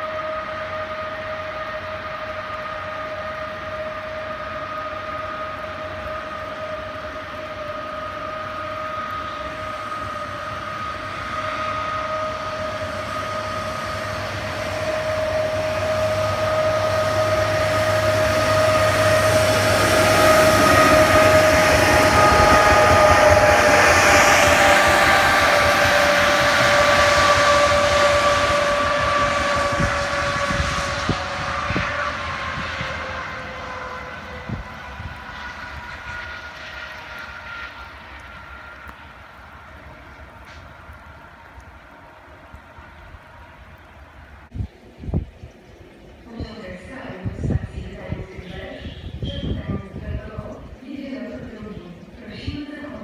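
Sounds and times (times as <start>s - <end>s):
deep train engine drone: 0.0s - 53.0s
train high two-note whine: 0.0s - 53.0s.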